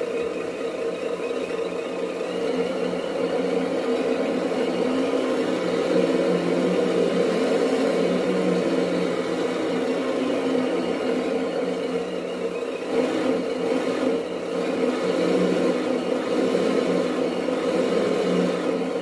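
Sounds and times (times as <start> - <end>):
toy truck motor hum: 0.0 - 19.0.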